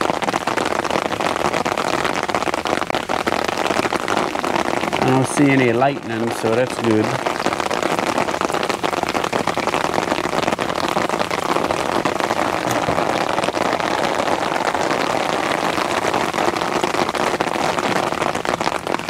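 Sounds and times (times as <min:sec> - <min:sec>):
rain on umbrella fabric: 0:00.0 - 0:19.0
rain on water: 0:00.0 - 0:19.0.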